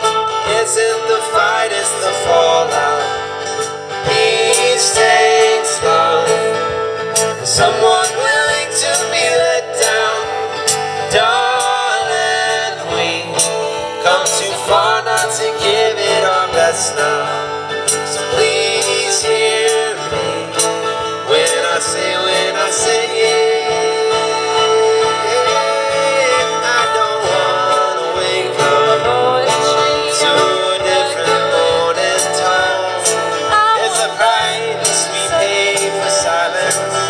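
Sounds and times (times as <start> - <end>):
acoustic guitar playing: 0.0 - 37.0
person singing: 0.0 - 37.0.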